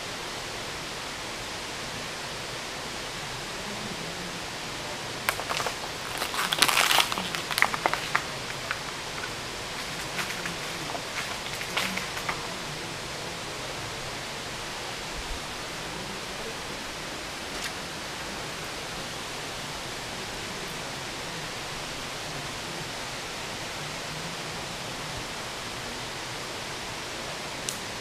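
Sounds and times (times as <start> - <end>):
water rushing over rapids: 0.0 - 28.0.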